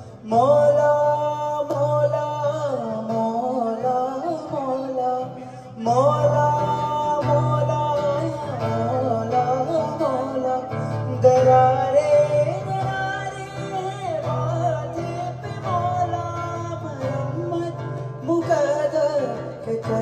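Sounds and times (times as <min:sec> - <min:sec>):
man singing long notes: 0:00.0 - 0:20.0
strummed acoustic guitar: 0:00.0 - 0:20.0.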